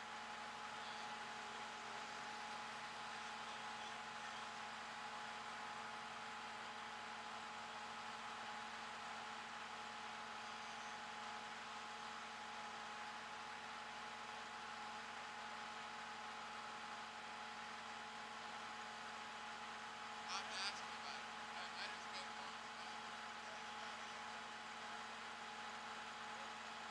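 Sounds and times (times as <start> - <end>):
truck engine idling: 0.0 - 26.9.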